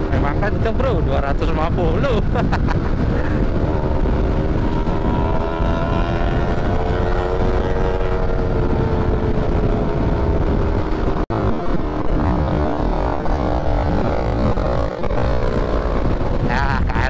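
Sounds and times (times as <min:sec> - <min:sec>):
wind rumble on microphone: 0:00.0 - 0:17.0
motor scooter engine running: 0:02.4 - 0:17.0.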